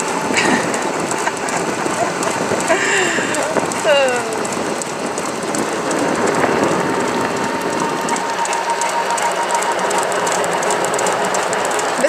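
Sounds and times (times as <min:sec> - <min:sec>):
cart rattling: 0:00.0 - 0:12.0
golf cart motor and tyres: 0:00.0 - 0:12.0
thin steady whine: 0:00.0 - 0:12.0.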